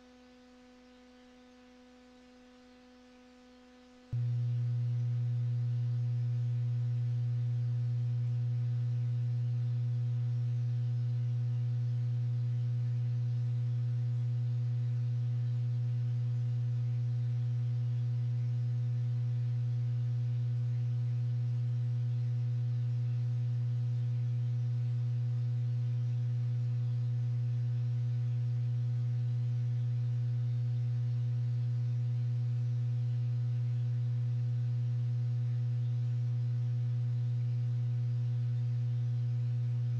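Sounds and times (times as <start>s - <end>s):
low electronic hum: 0.0s - 39.9s.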